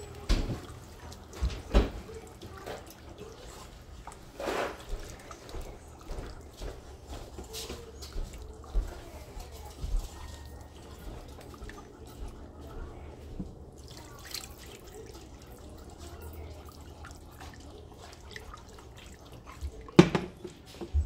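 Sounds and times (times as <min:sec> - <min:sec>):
whisk sloshing sauce: 0:00.0 - 0:21.0
whisk tapping a pot: 0:00.0 - 0:21.0.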